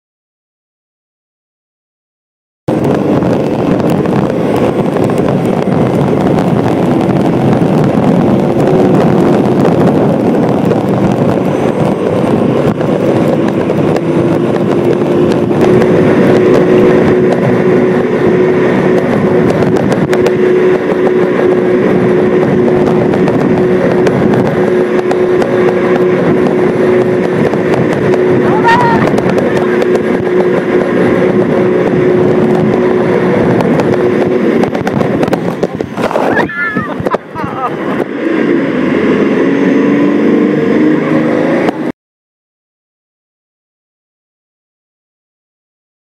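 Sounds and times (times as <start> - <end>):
boat engine roaring: 2.7 - 41.9
wind and water rush: 2.7 - 41.9.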